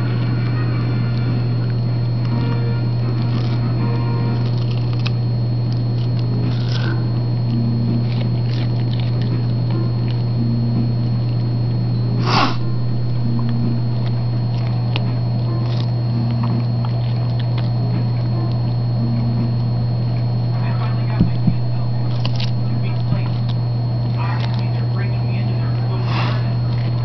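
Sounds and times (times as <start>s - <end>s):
dog chewing with crunches: 0.0s - 11.5s, 12.7s - 18.8s, 21.0s - 27.0s
steady low hum: 0.0s - 27.0s.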